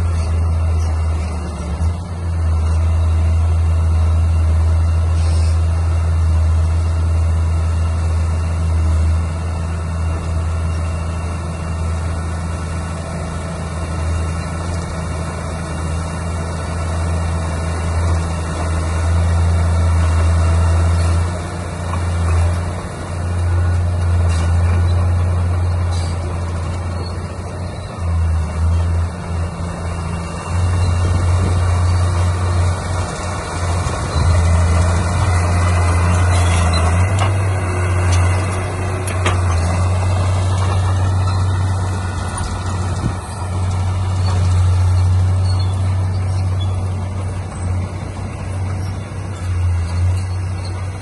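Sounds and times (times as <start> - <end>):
heavy diesel engine droning: 0.0 - 51.0.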